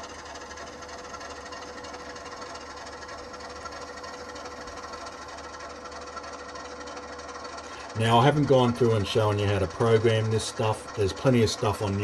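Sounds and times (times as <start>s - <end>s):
turntable drive motor humming: 0.0s - 12.0s.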